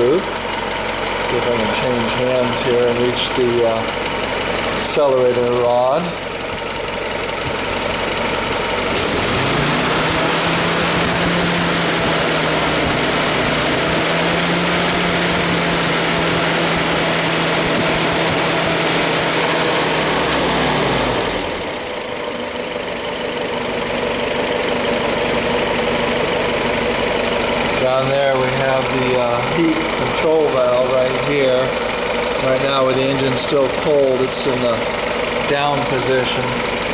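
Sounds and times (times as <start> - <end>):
engine revving: 0.0 - 6.2, 7.7 - 36.9.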